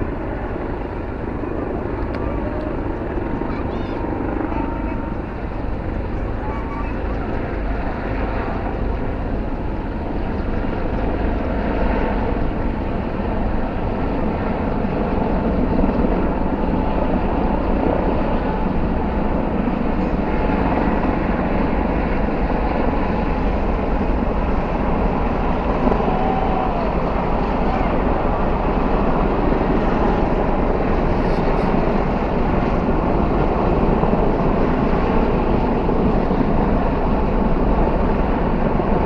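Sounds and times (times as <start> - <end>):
helicopters flying overhead: 0.0 - 39.0.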